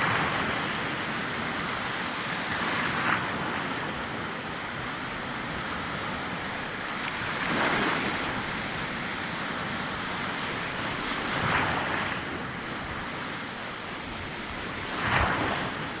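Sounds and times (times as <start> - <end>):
sea waves washing in: 0.0 - 16.0
surf hiss: 0.0 - 16.0.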